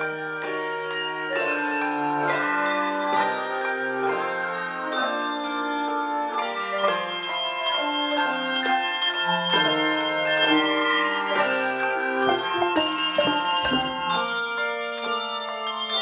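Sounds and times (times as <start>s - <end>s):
handbell choir playing chords: 0.0s - 16.0s.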